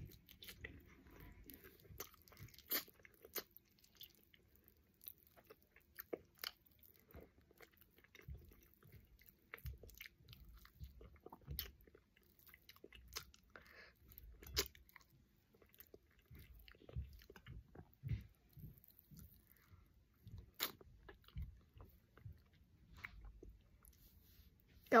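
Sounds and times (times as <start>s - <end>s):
chewing and biting: 0.0s - 24.1s.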